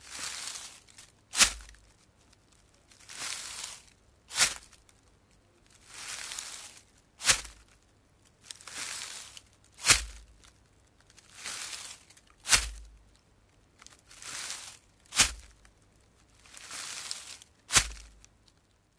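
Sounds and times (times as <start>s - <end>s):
footsteps on leaves and soil: 0.0s - 5.0s, 5.6s - 7.8s, 8.4s - 13.1s, 13.8s - 15.7s, 16.4s - 18.3s.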